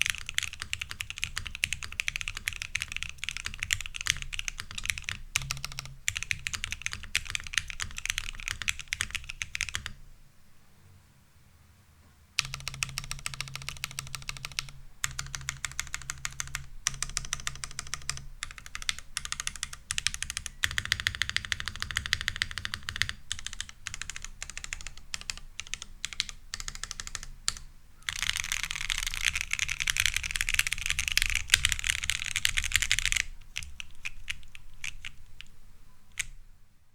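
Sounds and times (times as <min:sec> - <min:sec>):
typing on mechanical keyboard: 0:00.0 - 0:10.0, 0:12.4 - 0:36.4.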